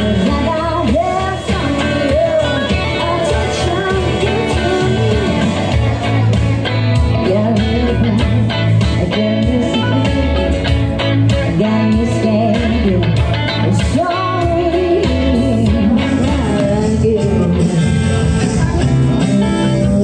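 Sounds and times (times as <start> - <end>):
electric guitar through small amp: 0.0 - 20.0
woman singing: 0.0 - 20.0.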